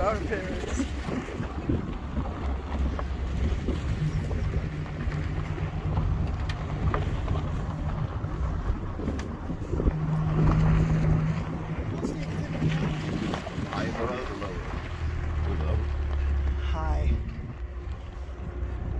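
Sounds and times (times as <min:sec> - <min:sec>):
car engine hum: 0:00.0 - 0:18.9
road rumble: 0:00.0 - 0:18.9
wind buffeting microphone: 0:00.0 - 0:18.9.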